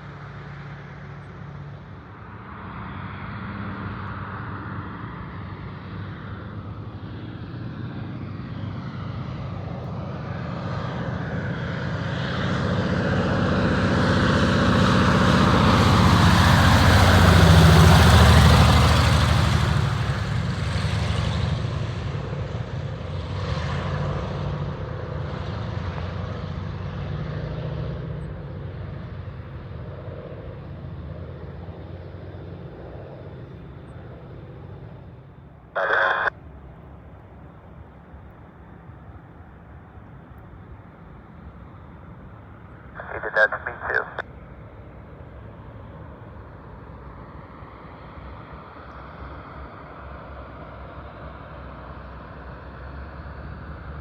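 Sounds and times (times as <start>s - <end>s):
propeller plane engine passing: 0.0s - 54.0s.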